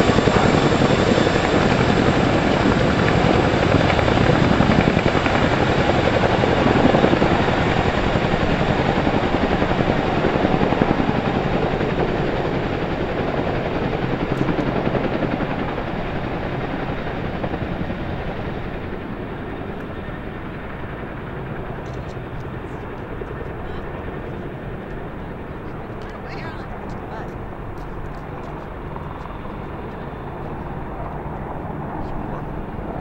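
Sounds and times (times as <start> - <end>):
helicopter rotors chopping: 0.0 - 33.0.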